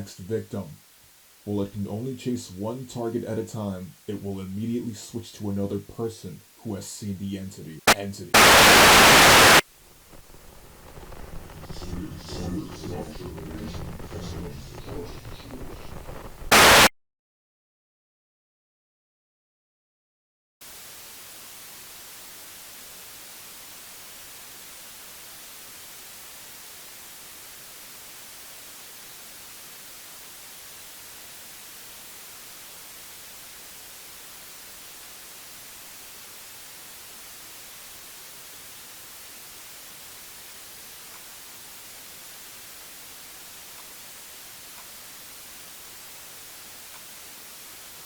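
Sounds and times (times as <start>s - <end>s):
static hiss: 0.0s - 16.9s, 20.6s - 48.0s.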